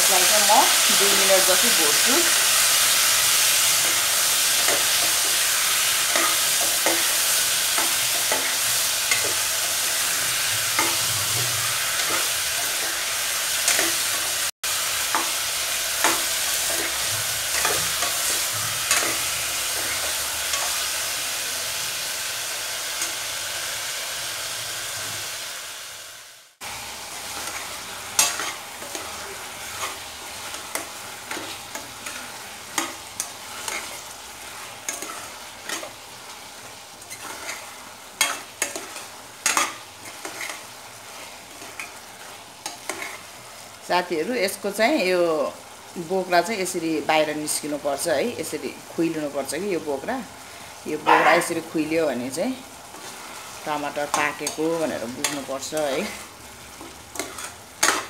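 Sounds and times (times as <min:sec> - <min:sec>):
tomatoes sizzling in oil: 0:00.0 - 0:58.0.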